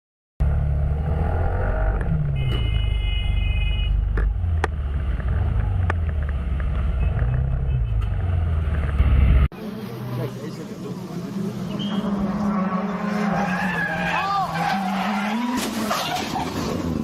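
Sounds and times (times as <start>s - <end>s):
traffic engine rumble: 0.4s - 17.0s.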